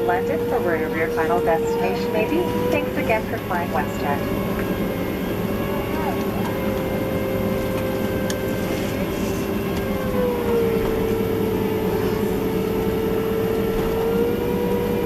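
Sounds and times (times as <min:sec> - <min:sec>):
airplane cabin rumble: 0:00.0 - 0:15.0
jet engine whine at idle: 0:00.0 - 0:15.0.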